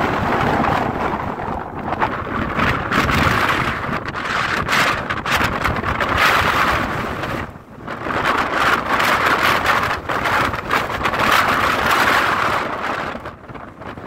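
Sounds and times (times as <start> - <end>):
strong wind gusting on microphone: 0.0 - 14.0.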